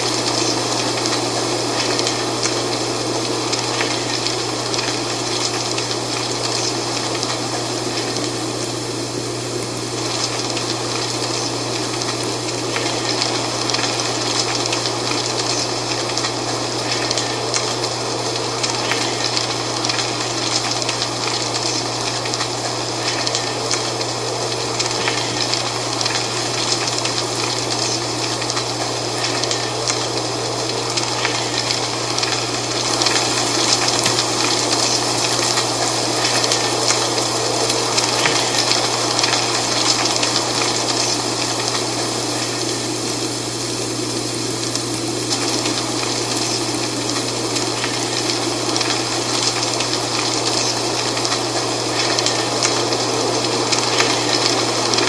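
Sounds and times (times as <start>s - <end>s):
dry leaves rustling in wind: 0.0s - 55.0s.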